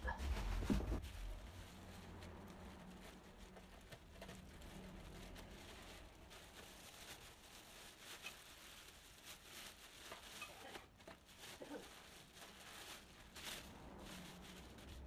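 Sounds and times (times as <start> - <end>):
soft ticks and rustles: 0.2 - 15.0.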